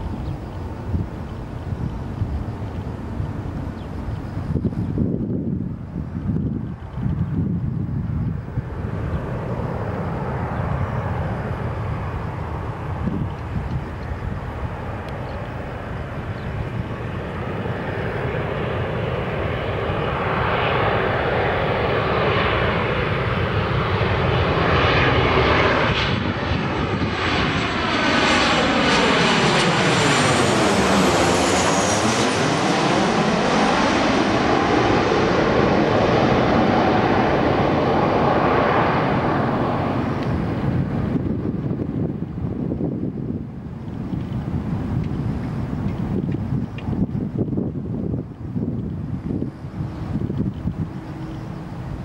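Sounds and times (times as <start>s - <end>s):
jet airliner roaring overhead: 0.0s - 52.0s.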